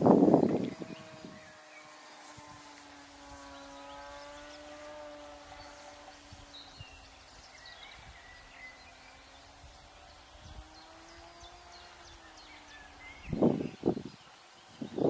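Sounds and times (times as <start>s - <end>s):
distant electric motor buzzing drone: 0.0s - 15.0s.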